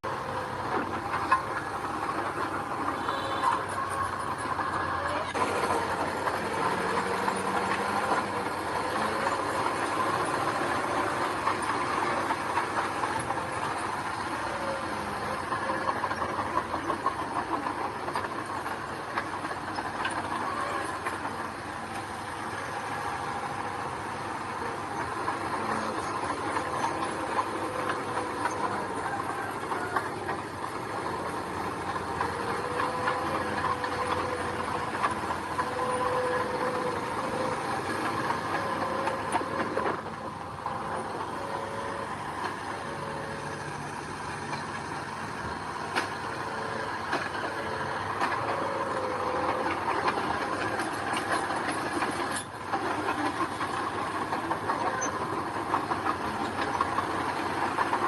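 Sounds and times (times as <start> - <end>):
diesel engine running: 0.0 - 58.0
machinery rattling clatter: 0.0 - 58.0.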